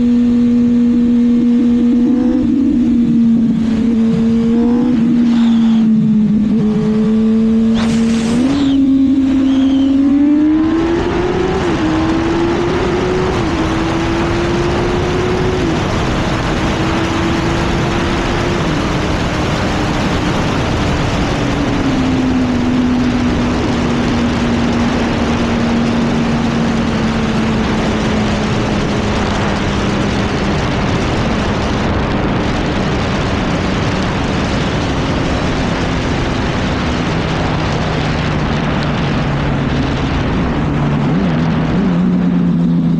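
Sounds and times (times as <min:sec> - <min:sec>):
heavy wind rush: 0:00.0 - 0:42.9
motorcycle engine accelerating: 0:00.0 - 0:42.9.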